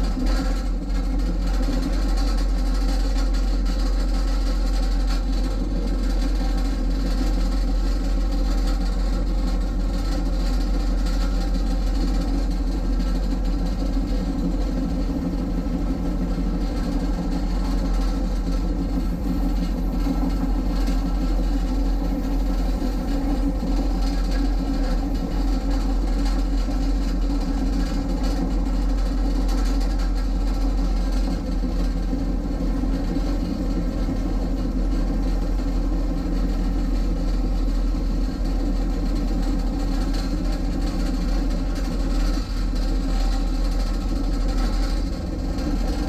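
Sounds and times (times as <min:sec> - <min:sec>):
train rumble and drone: 0:00.0 - 0:46.0.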